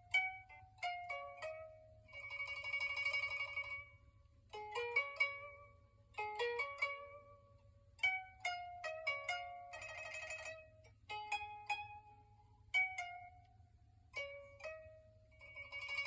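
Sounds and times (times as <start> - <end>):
koto plucked notes: 0.0 - 16.0.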